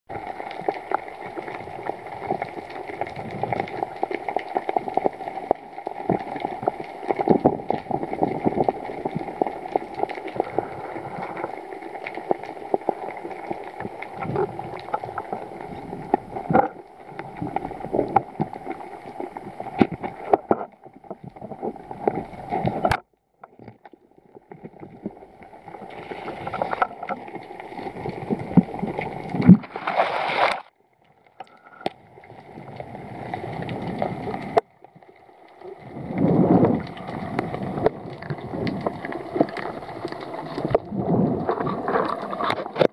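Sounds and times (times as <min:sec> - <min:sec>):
crackling clicks: 0:00.1 - 0:42.9
steady underwater hum: 0:00.1 - 0:42.9.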